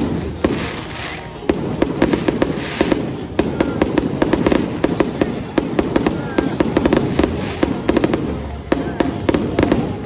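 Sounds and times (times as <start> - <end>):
continuous rumble: 0.0 - 10.0
fireworks bangs and cracks: 0.0 - 10.0.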